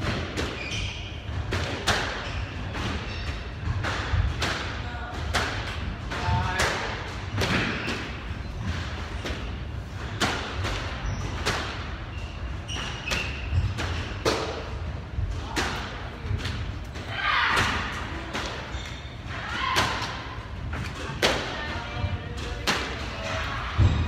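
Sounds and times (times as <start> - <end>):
squash ball thuds echoing: 0.0 - 24.0.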